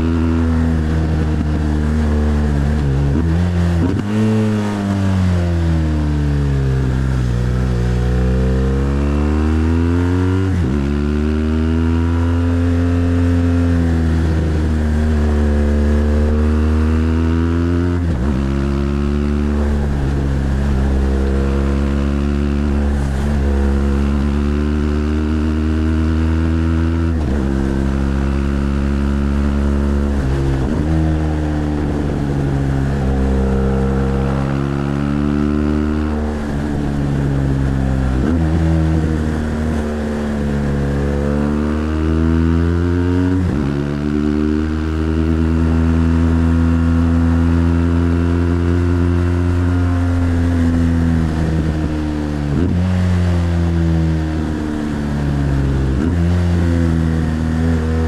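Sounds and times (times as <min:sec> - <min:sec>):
motorcycle engine pulling uphill: 0:00.0 - 0:58.0.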